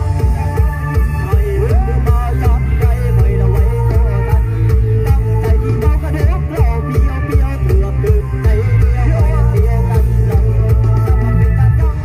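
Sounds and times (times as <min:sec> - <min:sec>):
loud dance music with heavy bass: 0:00.0 - 0:12.0.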